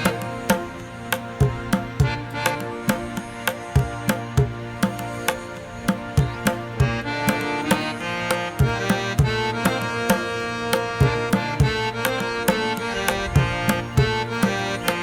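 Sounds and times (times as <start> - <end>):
instrumental music with drums: 0.0 - 15.0.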